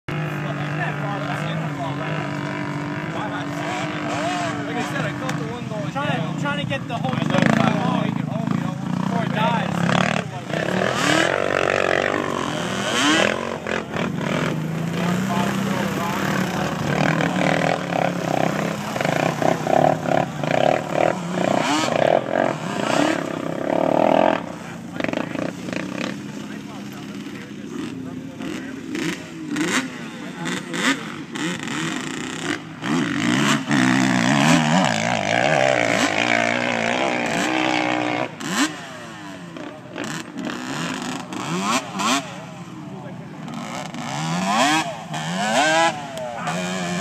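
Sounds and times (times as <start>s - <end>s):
atv engine revving: 0.0s - 47.0s.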